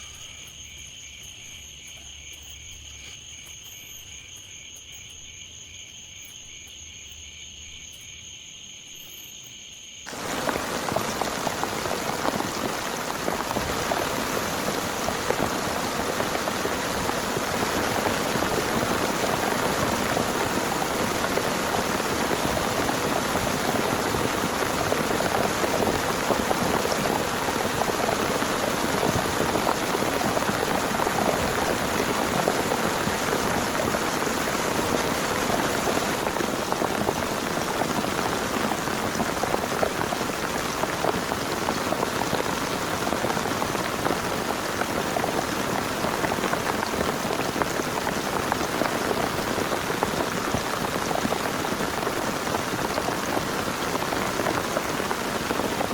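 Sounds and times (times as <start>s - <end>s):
heavy rain falling: 10.1s - 55.9s.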